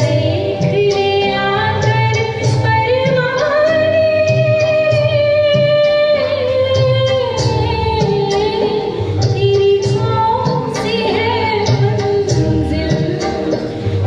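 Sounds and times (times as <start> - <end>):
backing track with steady beat: 0.0 - 14.0.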